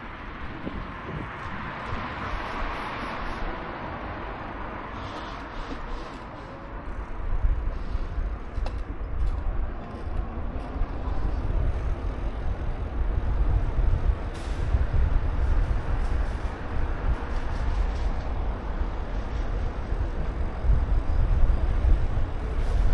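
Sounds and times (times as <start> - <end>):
road noise: 0.0 - 22.9
wind rumbling on microphone: 0.0 - 22.9.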